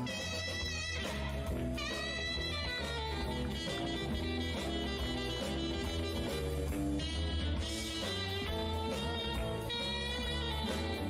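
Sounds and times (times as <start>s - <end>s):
instrumental background music: 0.0s - 11.0s
steady low bass line: 0.0s - 11.0s.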